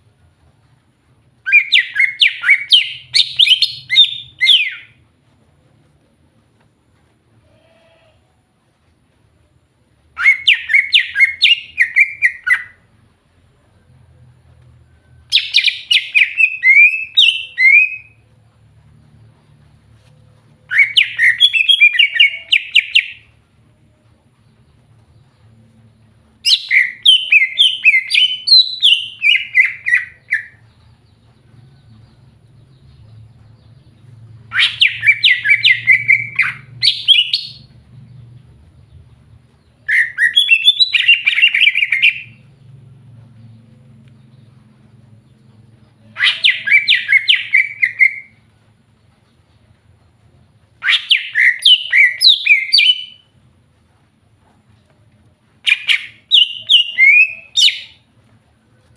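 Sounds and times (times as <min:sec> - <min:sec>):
bird chirping song: 0:00.0 - 0:06.0, 0:10.1 - 0:53.4, 0:54.4 - 0:58.9.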